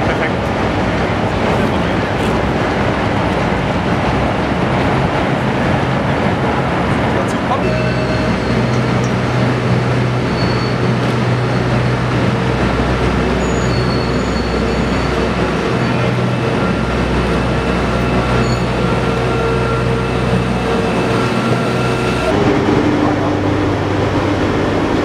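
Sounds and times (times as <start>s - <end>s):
locomotive running on rails: 0.0s - 25.0s.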